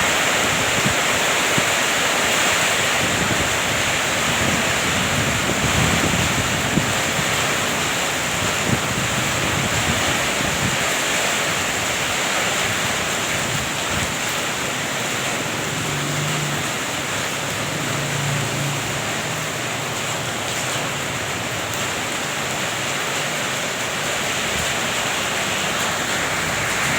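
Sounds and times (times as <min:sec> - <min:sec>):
heavy rain: 0:00.0 - 0:26.9
wind: 0:00.0 - 0:26.9.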